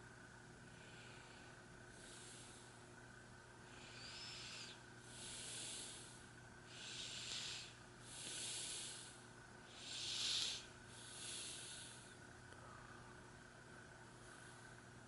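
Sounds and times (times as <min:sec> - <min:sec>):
faint steady hum: 0:00.0 - 0:15.0
person breathing: 0:00.6 - 0:02.9, 0:03.6 - 0:13.3, 0:14.2 - 0:14.9.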